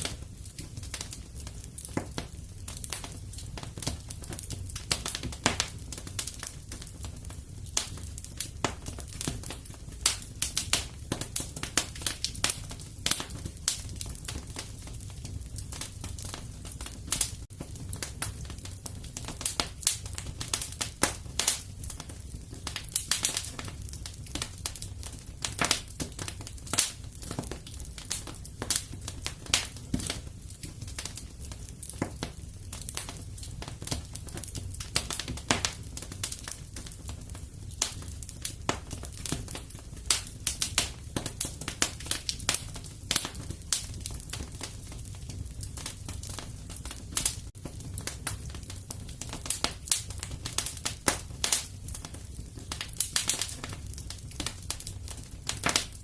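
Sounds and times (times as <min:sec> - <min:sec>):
fire crackling and popping: 0:00.0 - 0:56.0
fire flame rumble: 0:00.0 - 0:56.0.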